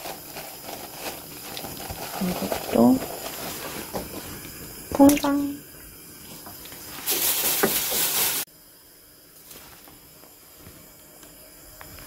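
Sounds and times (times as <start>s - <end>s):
faint steady hum: 0.0s - 12.0s
loud steady hiss: 0.0s - 12.0s.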